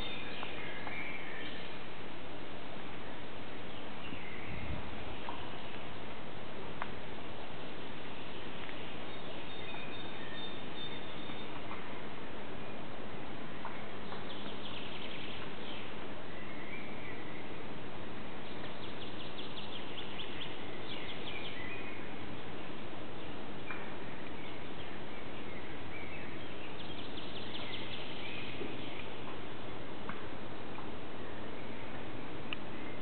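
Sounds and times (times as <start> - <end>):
background hiss: 0.0 - 33.0.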